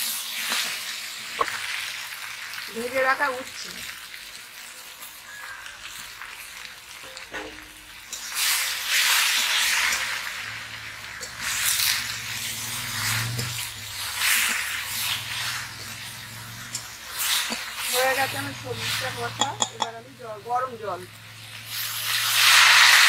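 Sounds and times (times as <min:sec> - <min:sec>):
spatula stirring in a wok: 0:00.0 - 0:03.2, 0:04.0 - 0:23.0
vegetables sizzling in hot oil: 0:00.0 - 0:23.0.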